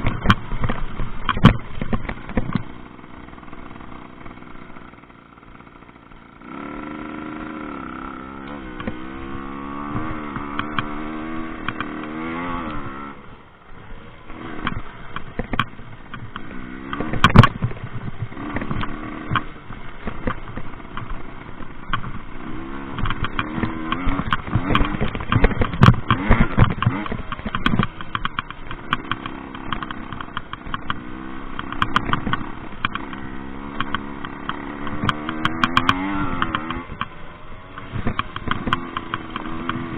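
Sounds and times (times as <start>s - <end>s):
moped engine revving: 0.0s - 39.9s.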